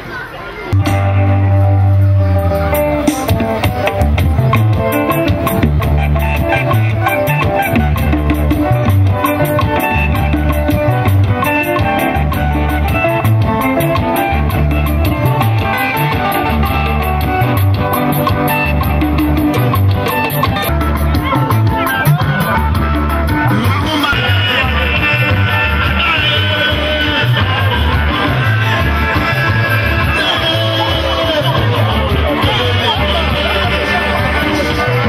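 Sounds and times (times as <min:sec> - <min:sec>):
upbeat music with pulsing bass: 0:00.8 - 0:35.0.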